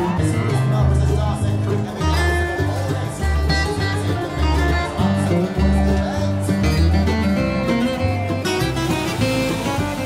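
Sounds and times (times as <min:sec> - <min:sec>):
bass line: 0:00.0 - 0:10.0
plucked acoustic guitar: 0:00.0 - 0:10.0.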